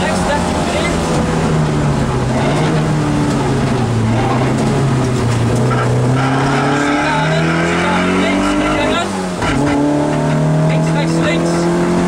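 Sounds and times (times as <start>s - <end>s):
race car engine under load: 0.0s - 12.0s.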